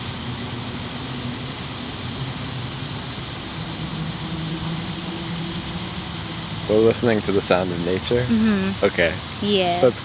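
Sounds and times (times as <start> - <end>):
city traffic hum: 0.0 - 10.0.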